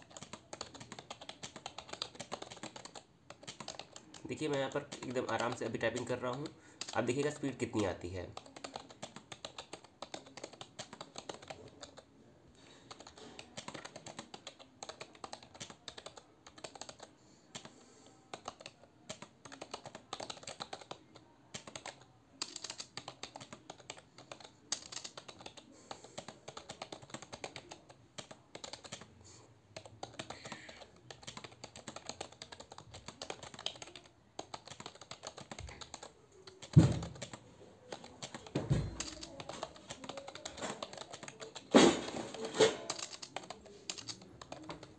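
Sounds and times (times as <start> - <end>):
keyboard typing: 0.0 - 44.9.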